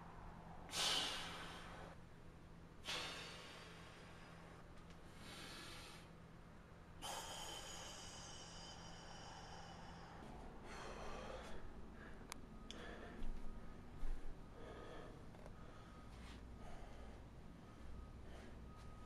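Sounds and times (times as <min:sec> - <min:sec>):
low room hum: 0:00.0 - 0:19.0
man breathing heavily through nose: 0:00.7 - 0:02.0, 0:02.8 - 0:19.0.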